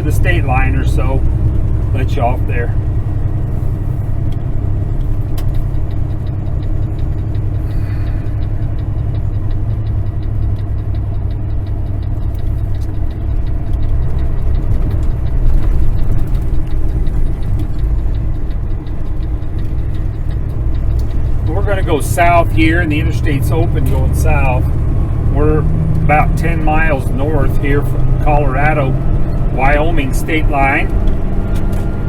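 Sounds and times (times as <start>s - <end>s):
faint rapid ticking: 0.0s - 31.7s
diesel truck engine running: 0.0s - 32.0s.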